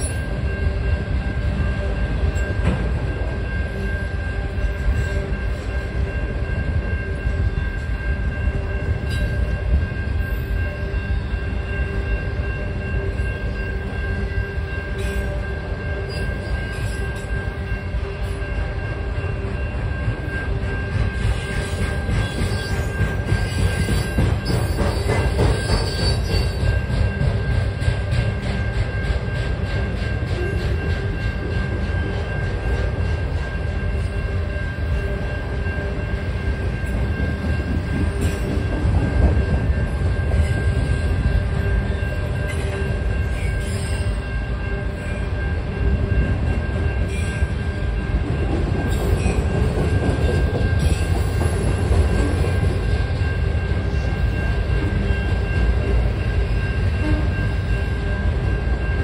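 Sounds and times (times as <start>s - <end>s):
freight train wheels rumbling: 0.0s - 59.0s
steady high tone: 0.0s - 59.0s.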